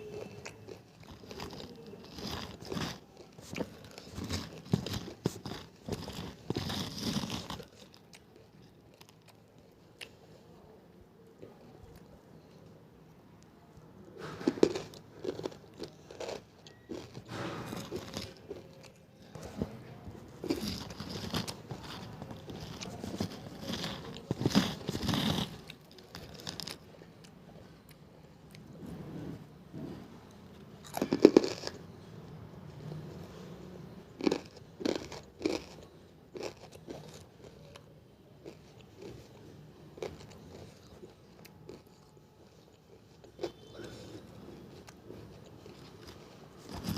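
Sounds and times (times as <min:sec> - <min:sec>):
crunching and chewing: 0:00.0 - 0:10.6, 0:14.1 - 0:29.2, 0:30.0 - 0:46.9.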